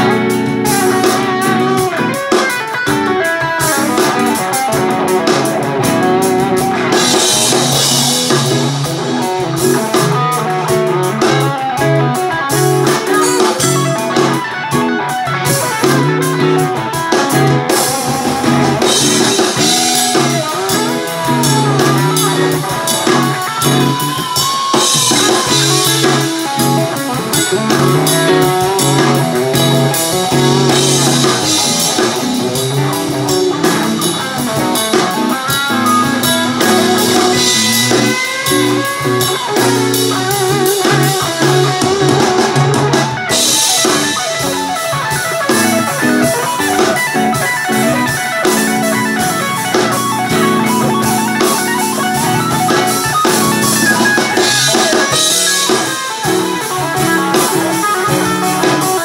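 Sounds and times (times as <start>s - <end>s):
electric guitar riffing: 0.0s - 59.0s.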